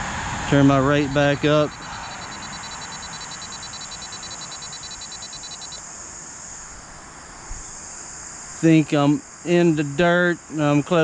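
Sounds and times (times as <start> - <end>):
distant road traffic hiss: 0.0 - 11.0
insects calling: 0.1 - 11.0
fast pulsing insect trill: 0.5 - 11.0.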